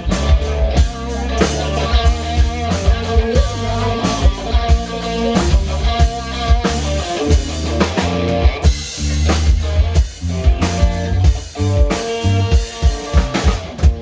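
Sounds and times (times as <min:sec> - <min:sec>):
bass guitar: 0:00.0 - 0:14.0
drum kit kick and snare: 0:00.0 - 0:14.0
guitar: 0:00.0 - 0:14.0.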